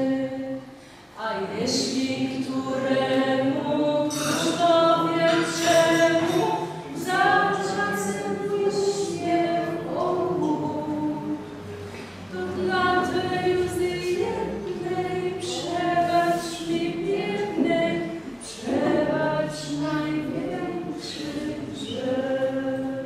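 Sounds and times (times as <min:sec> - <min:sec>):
voices singing unaccompanied: 0:00.0 - 0:23.0.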